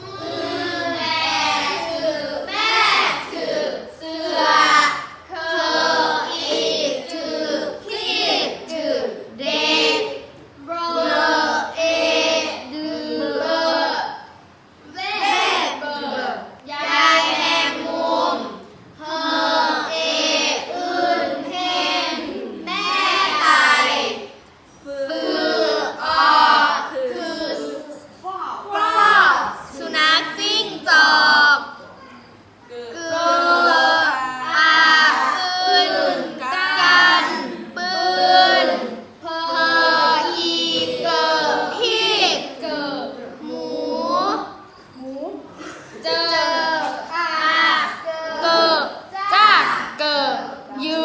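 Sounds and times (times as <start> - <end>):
children chanting in unison: 0.0 - 44.7, 45.6 - 51.0.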